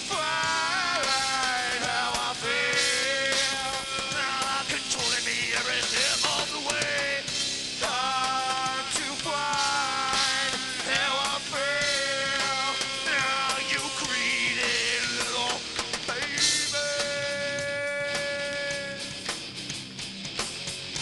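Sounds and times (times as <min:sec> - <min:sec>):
drums: 0:00.0 - 0:21.0
rock band playing live: 0:00.0 - 0:21.0.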